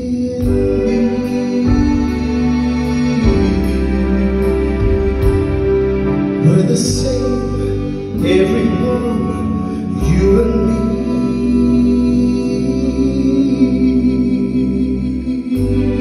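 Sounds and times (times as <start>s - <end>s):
man singing long held notes: 0.0s - 4.6s, 6.4s - 16.0s
live band playing: 0.0s - 16.0s.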